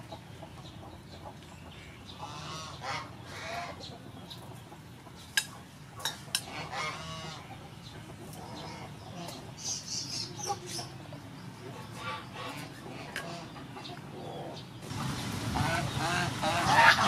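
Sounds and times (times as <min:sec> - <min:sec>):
poultry calling: 0:00.0 - 0:14.7, 0:15.6 - 0:17.0.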